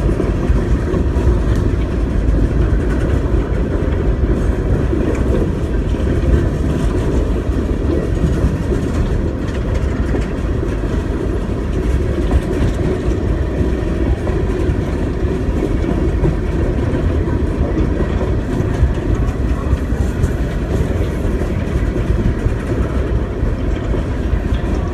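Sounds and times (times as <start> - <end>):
freight train cars rumbling past: 0.0 - 24.9.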